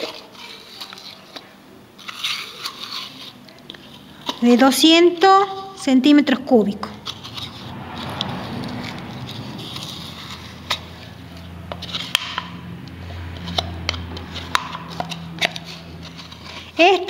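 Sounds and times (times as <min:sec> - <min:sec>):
spoon scraping cream: 0:00.0 - 0:05.8, 0:06.8 - 0:17.0.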